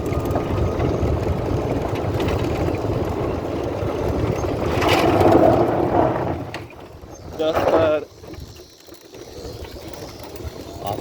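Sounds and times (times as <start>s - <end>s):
tyres rumbling on gravel: 0.0s - 11.0s.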